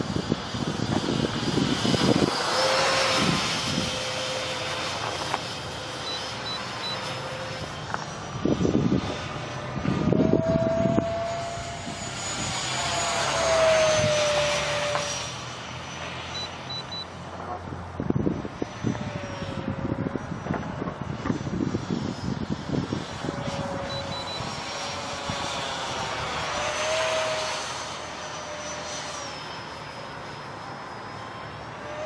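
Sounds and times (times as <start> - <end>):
electric ducted fan whine: 0.0 - 32.0.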